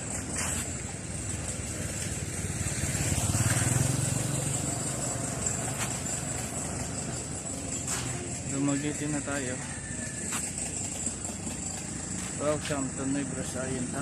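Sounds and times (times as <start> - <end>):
outdoor traffic noise: 0.0 - 14.0
vehicle passing: 0.4 - 14.0.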